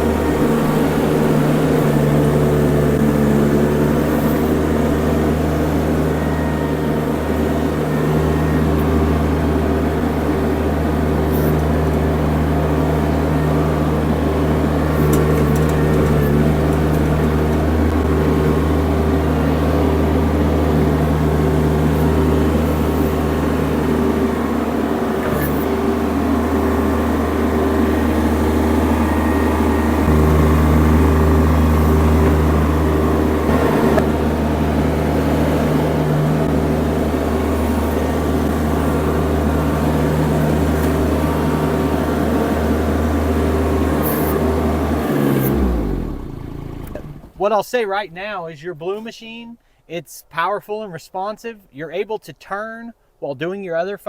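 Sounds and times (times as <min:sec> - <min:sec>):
skid steer engine under load: 0:00.0 - 0:48.1.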